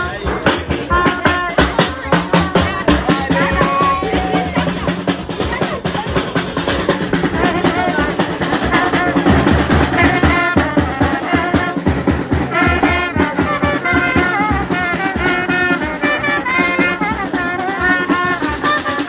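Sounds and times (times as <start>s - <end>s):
steady drum beat: 0.0s - 19.0s
trumpets playing: 0.0s - 19.0s.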